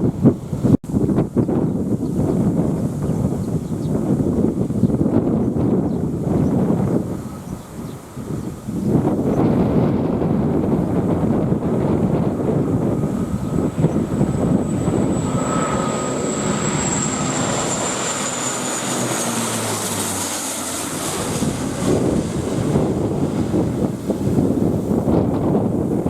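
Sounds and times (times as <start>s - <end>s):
jet airliner passing overhead: 0.0s - 26.0s
wind buffeting microphone: 0.0s - 26.0s.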